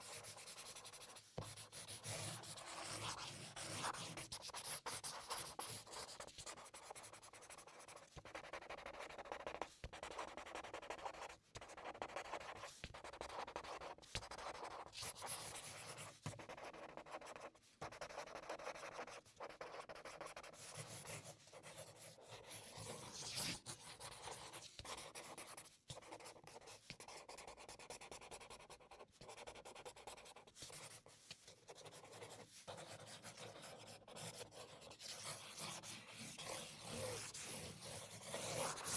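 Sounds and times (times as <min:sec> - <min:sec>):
marker scratching on paper: 0:00.0 - 0:38.9.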